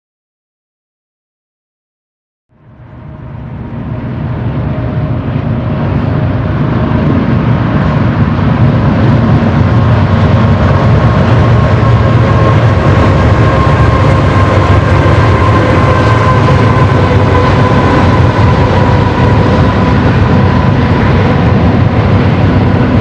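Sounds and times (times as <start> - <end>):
freight train rumbling on rails: 2.5 - 23.0.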